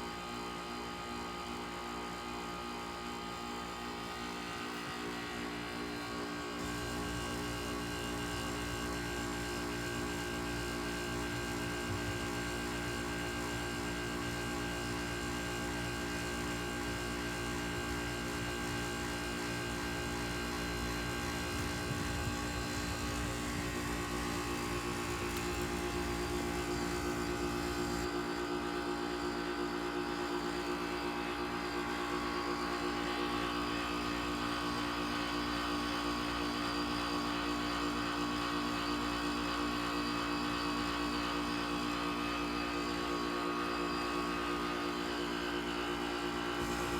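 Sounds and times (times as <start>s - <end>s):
heat pump humming and whirring: 0.0s - 46.9s.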